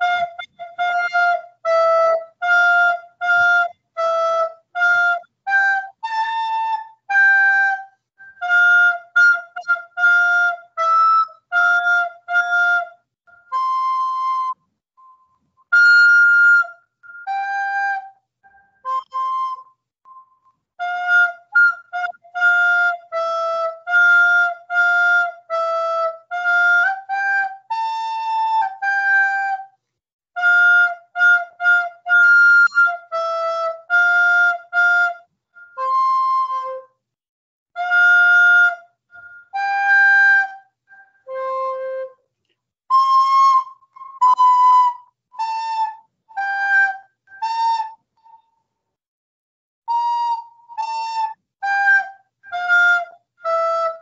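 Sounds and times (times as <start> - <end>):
recorder playing melody: 0.0 - 29.7, 30.4 - 36.9, 37.8 - 42.1, 42.9 - 48.5, 49.9 - 54.0.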